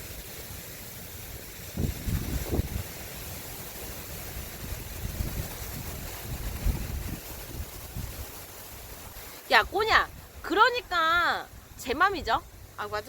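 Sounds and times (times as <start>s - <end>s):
wind buffeting microphone: 1.2s - 13.0s.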